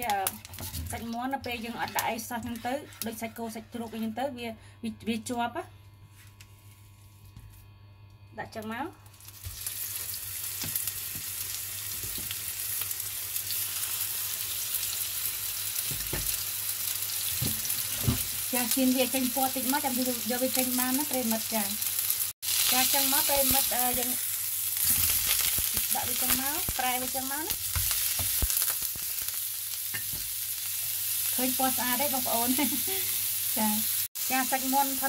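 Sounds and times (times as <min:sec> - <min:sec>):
patties sizzling in hot oil: 0:00.0 - 0:03.6, 0:09.0 - 0:35.0.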